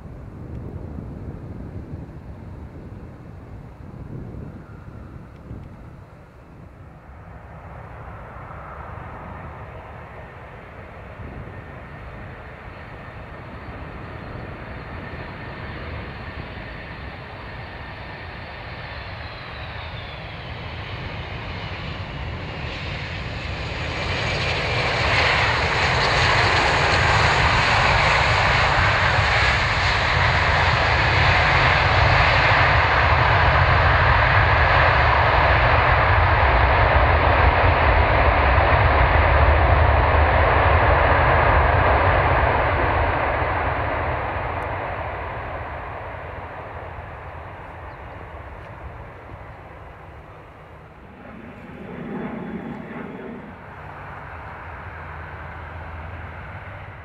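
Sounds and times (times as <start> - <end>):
jetliner engines whining: 0.0 - 57.0.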